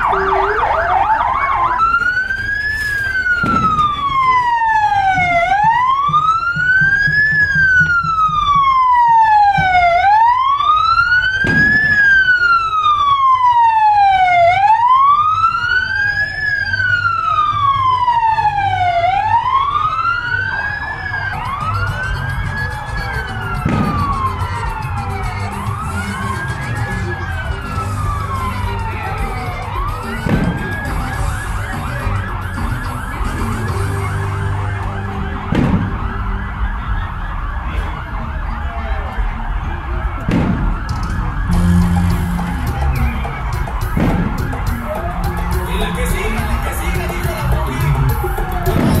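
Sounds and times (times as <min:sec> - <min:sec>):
second siren tone: 0:00.0 - 0:12.9, 0:19.7 - 0:46.1
siren wailing: 0:00.0 - 0:49.0.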